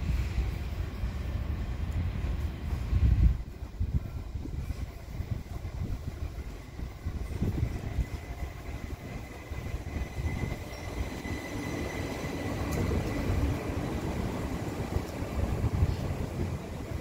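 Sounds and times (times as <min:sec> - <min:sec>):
rail wheels rumbling on track: 0:00.0 - 0:17.0.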